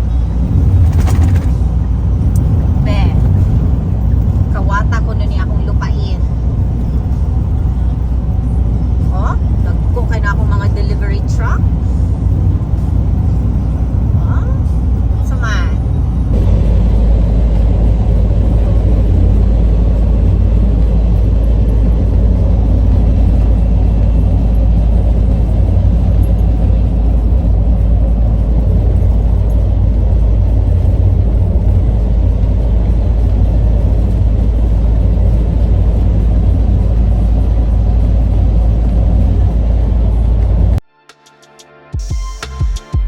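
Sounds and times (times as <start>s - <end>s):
truck engine and road rumble: 0.0s - 43.0s.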